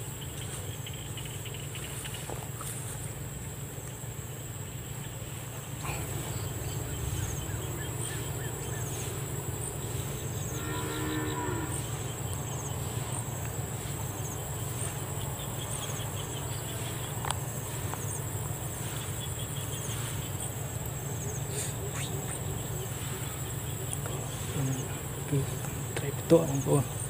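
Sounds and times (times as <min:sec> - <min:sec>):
low drone: 0:00.0 - 0:27.0
pulsing insect trill: 0:00.0 - 0:27.0.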